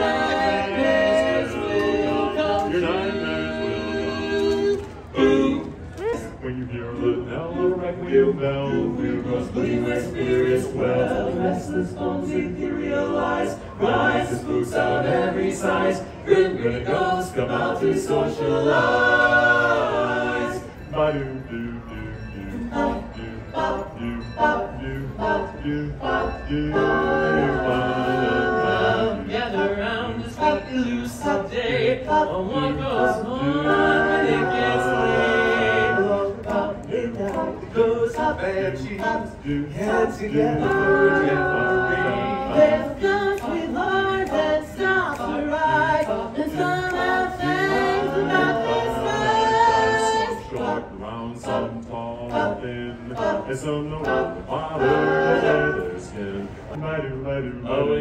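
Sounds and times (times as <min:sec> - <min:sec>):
men singing in harmony: 0:00.0 - 0:58.0.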